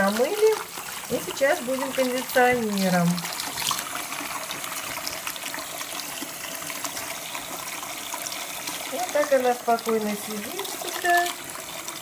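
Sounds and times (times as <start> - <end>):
tap running into a sink: 0.0 - 12.0
water splashing: 0.0 - 12.0.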